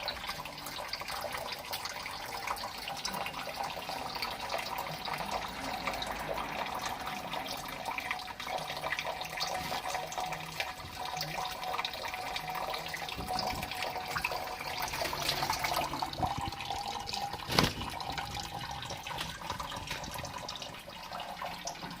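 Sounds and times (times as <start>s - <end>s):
water running into a sink: 0.0s - 22.0s.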